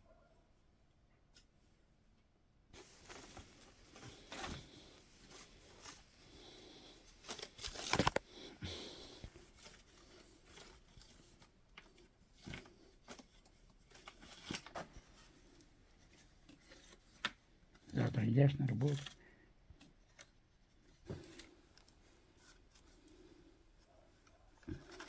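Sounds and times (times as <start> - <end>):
rustling and crinkling: 2.8 - 25.0.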